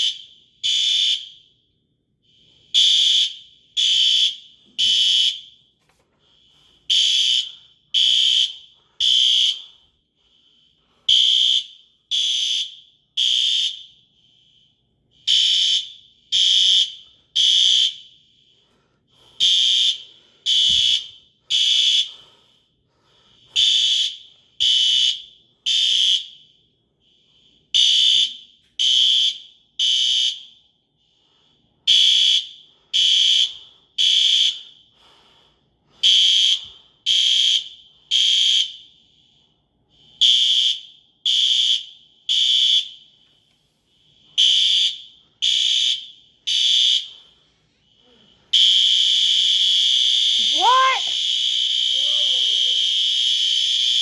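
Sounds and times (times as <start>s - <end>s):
fire alarm beeping: 0.0s - 43.4s, 44.0s - 54.0s
faint alarm beeping: 0.0s - 54.0s.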